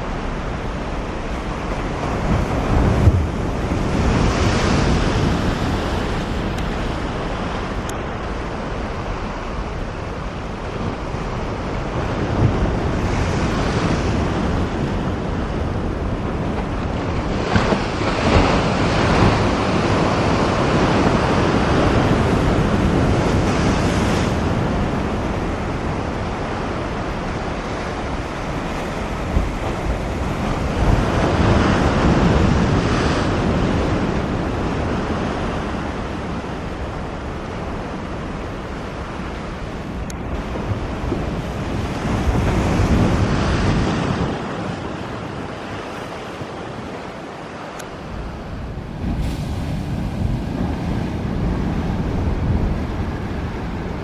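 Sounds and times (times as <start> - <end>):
surf breaking against shore: 0.0 - 54.0
wind buffeting microphone: 0.0 - 54.0.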